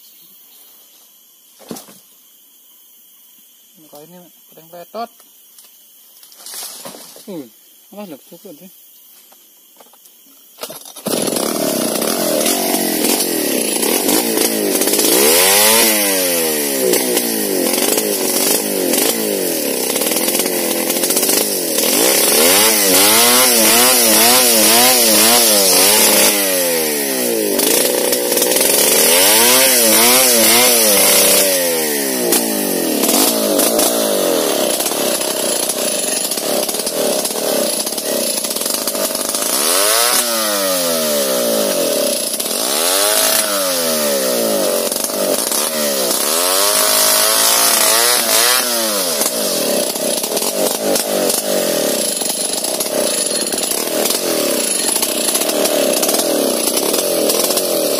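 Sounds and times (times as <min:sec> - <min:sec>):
chainsaw cutting a log: 0:10.6 - 0:57.9.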